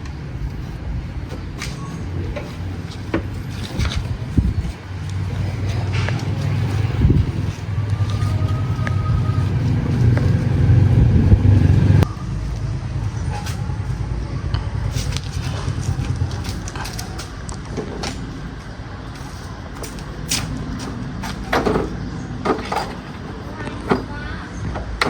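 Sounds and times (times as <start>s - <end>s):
motor rumbling: 0.0s - 25.0s.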